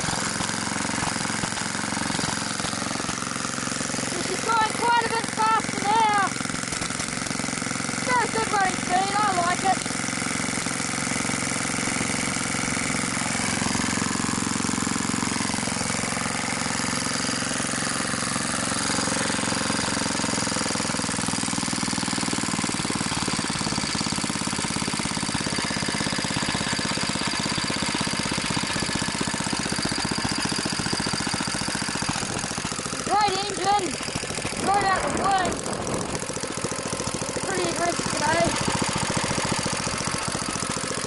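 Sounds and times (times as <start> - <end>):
single-cylinder engine running: 0.0 - 41.0.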